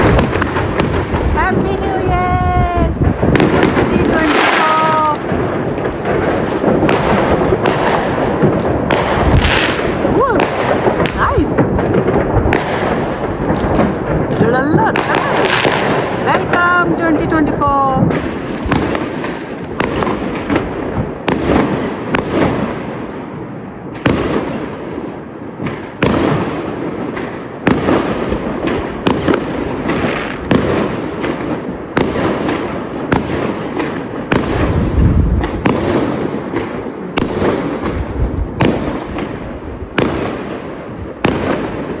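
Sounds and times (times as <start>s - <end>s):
fireworks bangs: 0.0s - 42.0s
fireworks crackling: 0.0s - 42.0s.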